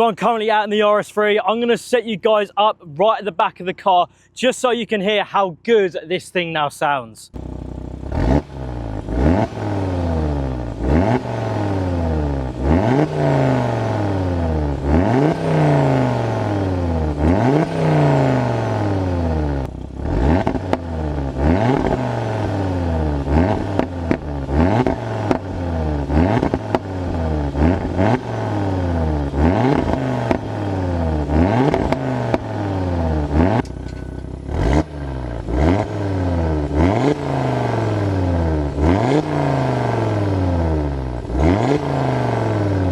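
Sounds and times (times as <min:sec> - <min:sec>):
car engine revving through exhaust: 0:07.4 - 0:42.9.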